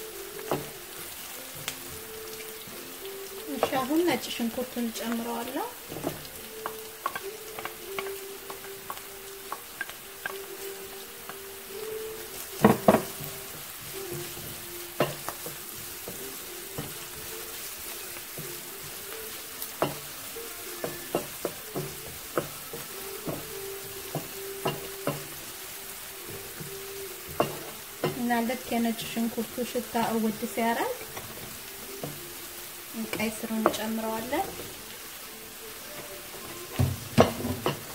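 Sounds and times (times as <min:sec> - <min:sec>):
onions sizzling in oil: 0:00.0 - 0:37.9
spatula knocking on pan: 0:00.4 - 0:00.9, 0:03.5 - 0:32.4, 0:33.1 - 0:34.8, 0:36.4 - 0:37.9.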